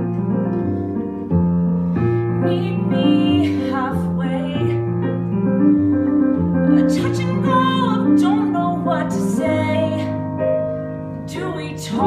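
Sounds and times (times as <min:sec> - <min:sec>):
piano playing sustained chords: 0:00.0 - 0:12.0.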